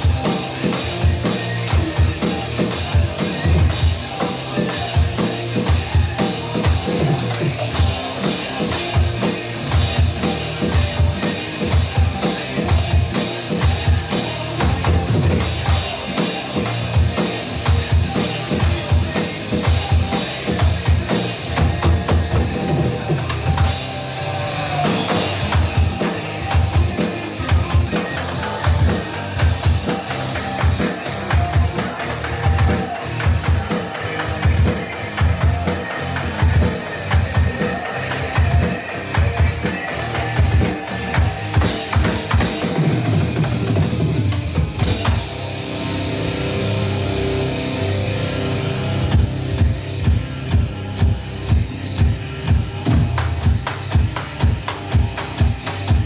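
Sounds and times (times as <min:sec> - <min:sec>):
electronic drum kit beat: 0:00.0 - 0:56.0
hard rock song: 0:00.0 - 0:56.0.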